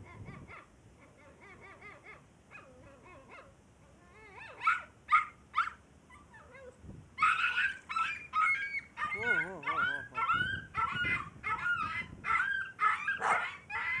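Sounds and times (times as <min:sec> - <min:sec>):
puppy whining: 0:01.9 - 0:14.0
puppy yelping: 0:02.0 - 0:03.5, 0:04.2 - 0:14.0.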